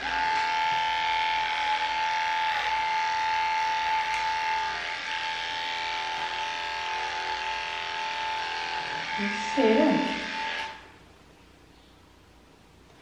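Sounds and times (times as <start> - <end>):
electric clippers running: 0.0 - 11.0.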